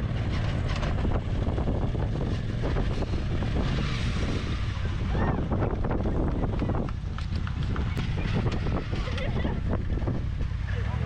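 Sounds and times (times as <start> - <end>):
engine running low drone: 0.0 - 11.0.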